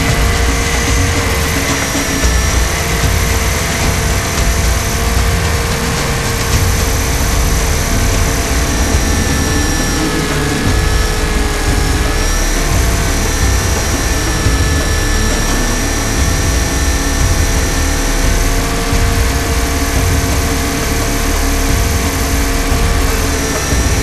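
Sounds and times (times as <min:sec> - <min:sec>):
dense low rumble: 0:00.0 - 0:24.0.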